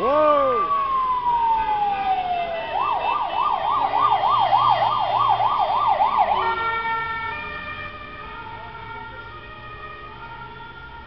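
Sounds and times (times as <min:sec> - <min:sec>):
ambulance siren: 0:00.0 - 0:11.0.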